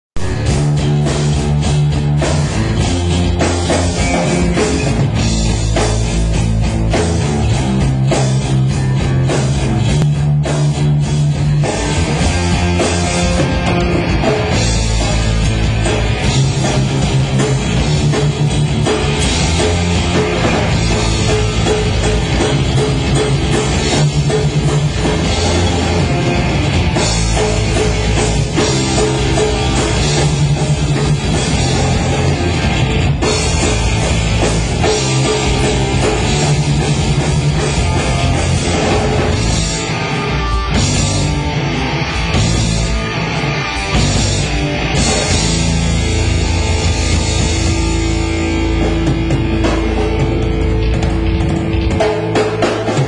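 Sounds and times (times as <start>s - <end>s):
distorted electric guitars: 0.2s - 53.0s
drum kit: 0.2s - 53.0s.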